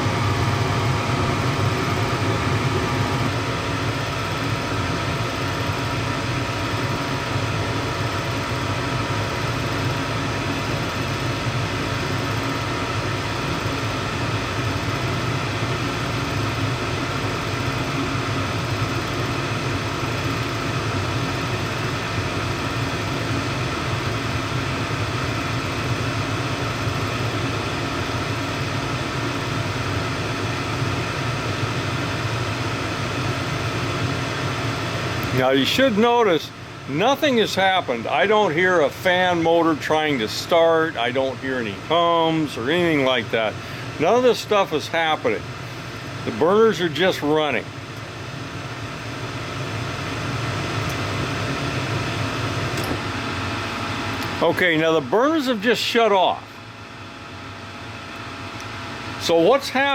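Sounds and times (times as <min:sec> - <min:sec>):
draft inducer motor running: 0:00.0 - 0:59.9
gas furnace burners firing: 0:00.0 - 0:59.9.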